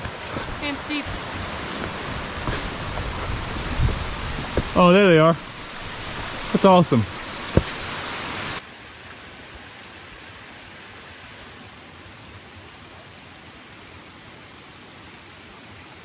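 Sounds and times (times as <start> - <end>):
waterfall and creek rushing: 0.0 - 16.0.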